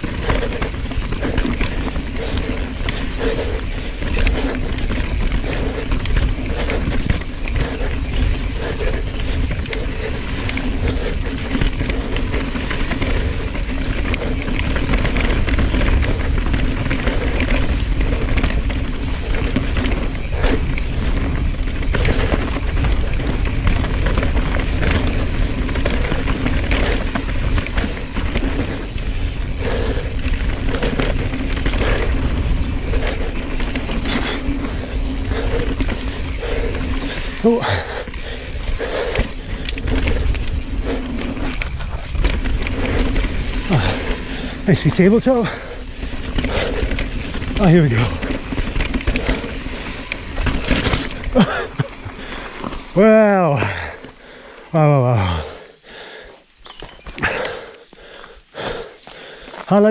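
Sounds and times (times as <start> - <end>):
bike rattling and knocking: 0.0 - 59.9
rumble of wind and tyres: 0.0 - 59.9.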